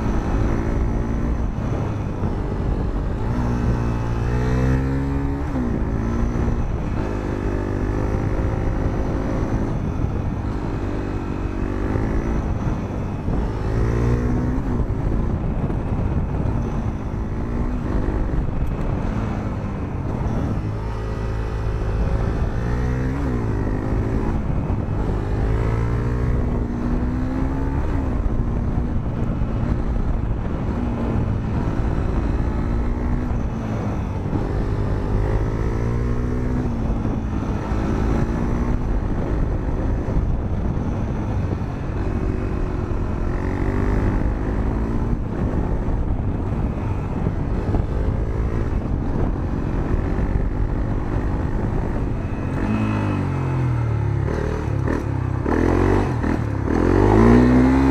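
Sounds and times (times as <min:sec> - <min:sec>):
motorcycle engine revving: 0:00.0 - 0:57.9
wind and road noise: 0:00.0 - 0:57.9.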